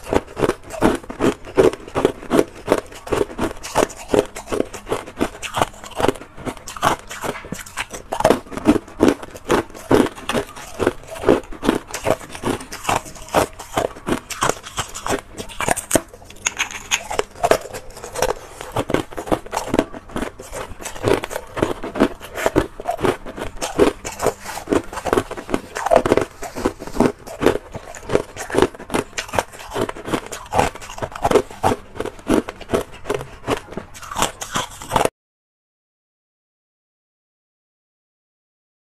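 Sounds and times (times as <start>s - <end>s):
ice being chewed: 0.0s - 35.1s.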